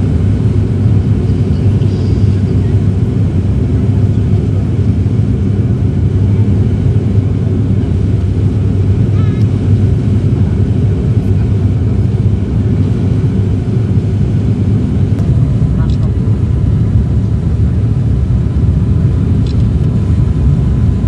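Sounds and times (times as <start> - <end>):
airplane propeller engines droning: 0.0 - 21.0.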